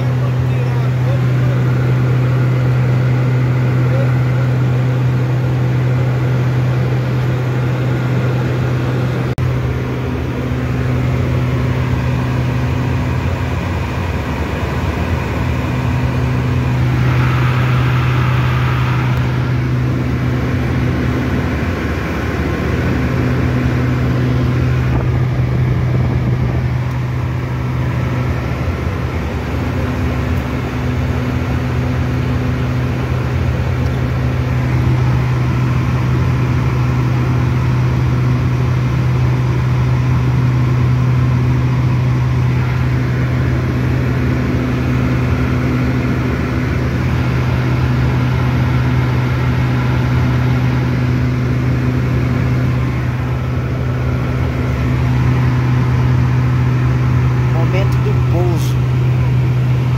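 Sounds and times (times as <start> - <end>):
turboprop engines in cockpit: 0.0 - 59.9.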